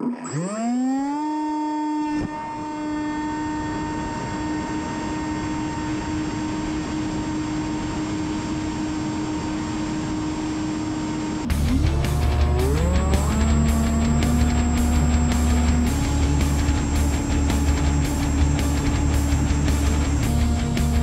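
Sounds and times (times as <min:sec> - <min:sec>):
drone motor whine: 0:00.0 - 0:21.0.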